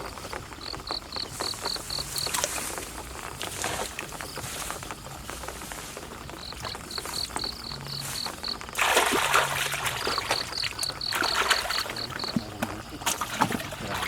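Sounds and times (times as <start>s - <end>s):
insect chirping: 0.0s - 14.0s
water splashing: 0.0s - 14.0s.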